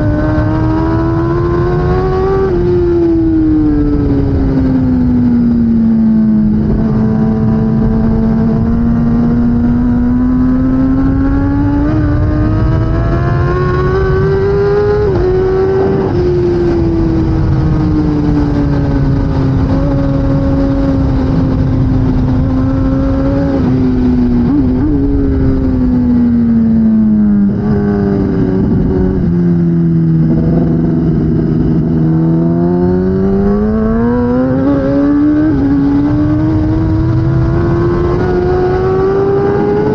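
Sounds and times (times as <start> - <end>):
motorcycle engine running hard: 0.0 - 39.9
wind noise: 0.0 - 39.9.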